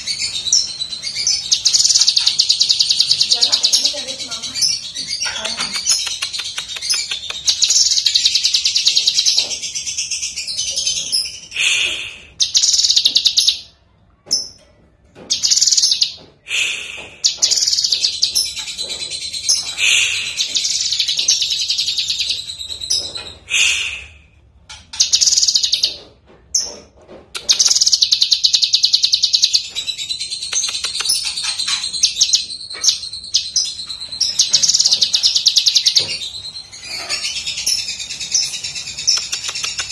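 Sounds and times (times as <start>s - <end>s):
bird chattering song: 0.0s - 13.8s, 15.3s - 24.0s, 24.7s - 39.9s.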